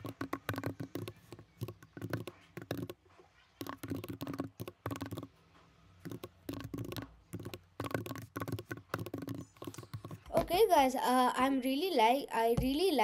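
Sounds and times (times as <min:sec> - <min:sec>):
computer keyboard typing: 0:00.0 - 0:10.8.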